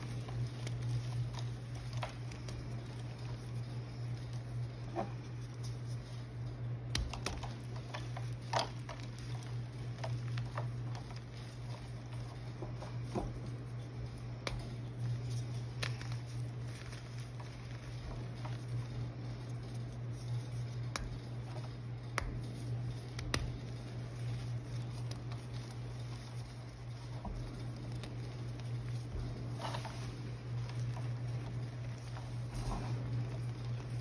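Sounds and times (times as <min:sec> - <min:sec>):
chalk crumbling between fingers: 0:00.0 - 0:34.0
steady low hum: 0:00.0 - 0:34.0.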